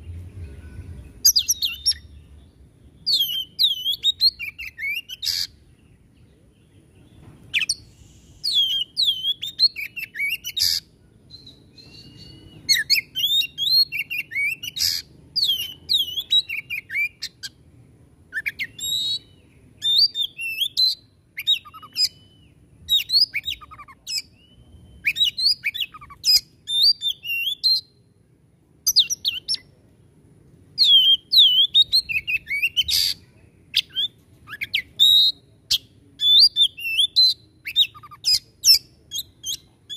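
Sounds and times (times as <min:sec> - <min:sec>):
bird singing whistled phrases: 0:00.4 - 0:02.2, 0:02.9 - 0:05.5, 0:07.5 - 0:17.6, 0:18.3 - 0:28.0, 0:28.8 - 0:29.7, 0:30.8 - 0:39.9.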